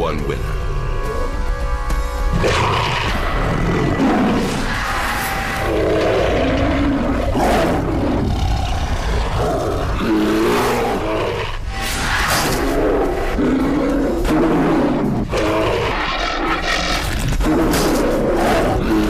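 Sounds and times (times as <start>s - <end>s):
bears roaring and growling: 2.3s - 19.0s.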